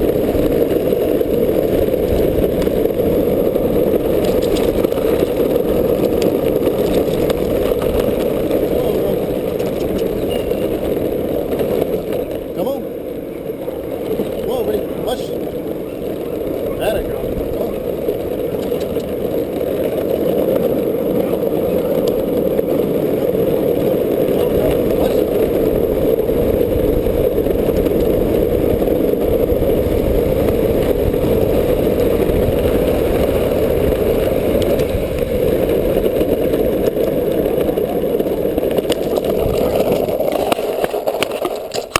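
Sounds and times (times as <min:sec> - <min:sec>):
skateboard wheels rolling on asphalt: 0:00.0 - 0:41.9.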